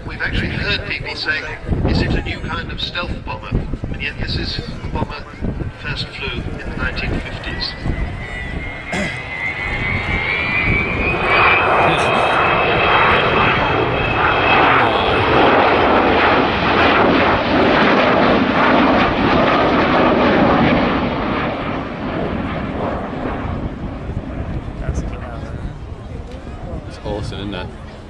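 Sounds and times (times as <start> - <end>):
loud jet noise: 0.0 - 25.6
jet engine whine: 0.0 - 28.0.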